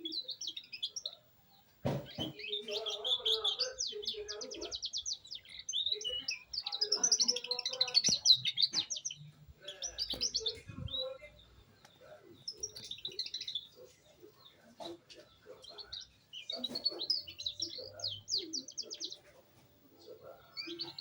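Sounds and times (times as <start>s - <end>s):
canary singing trills: 0.0s - 21.0s.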